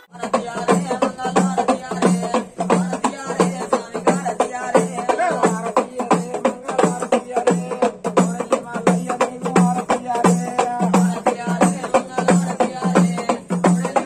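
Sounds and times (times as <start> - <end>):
rhythmic drumming: 0.0 - 14.0.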